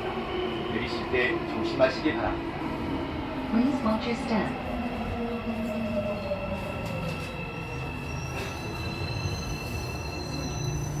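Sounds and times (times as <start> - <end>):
subway train whine: 0.0 - 11.0.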